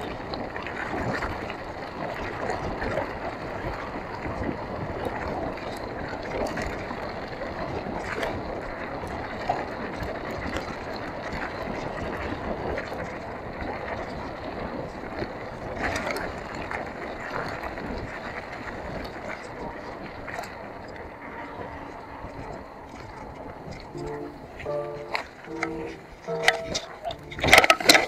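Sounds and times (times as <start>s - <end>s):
bike tyres rolling on dirt: 0.0s - 24.0s
wind on microphone: 0.0s - 28.0s.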